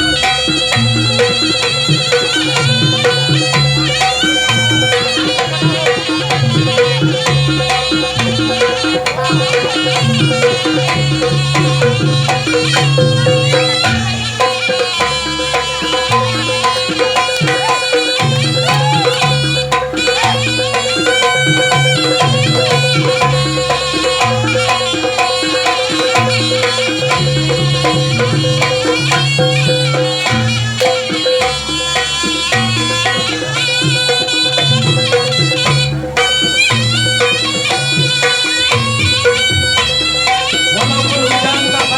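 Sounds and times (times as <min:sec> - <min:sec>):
hand drums: 0:00.0 - 0:41.9
reed pipe melody: 0:00.0 - 0:41.9
steady held tone: 0:00.0 - 0:41.9.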